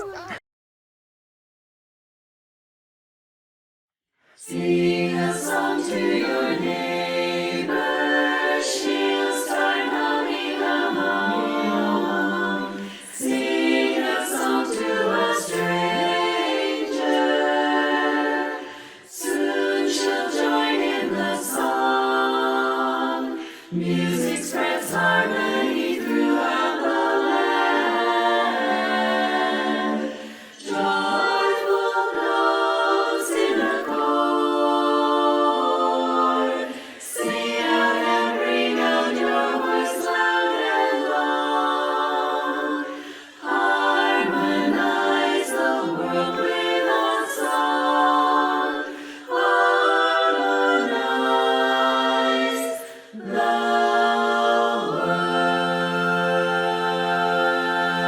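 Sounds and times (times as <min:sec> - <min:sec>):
women's chorus singing a cappella: 0:04.3 - 0:58.0.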